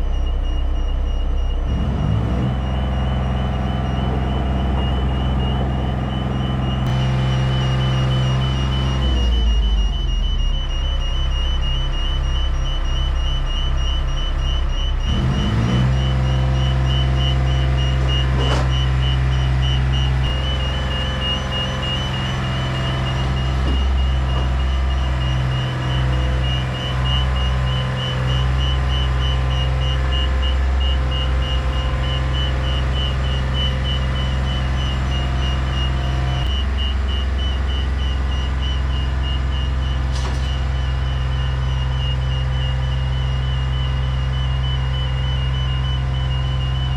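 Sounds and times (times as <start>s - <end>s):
lorry engine drone: 0.0s - 46.9s.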